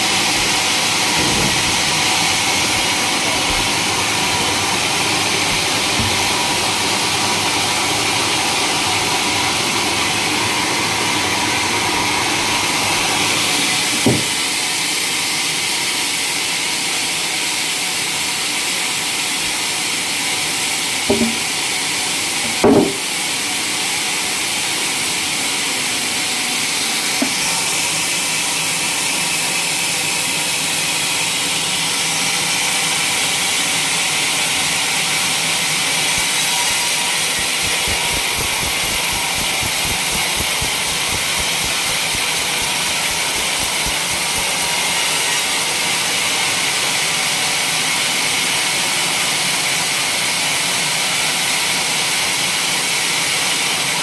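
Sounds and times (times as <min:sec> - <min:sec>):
sawmill blade sawing timber: 0:00.0 - 0:48.8.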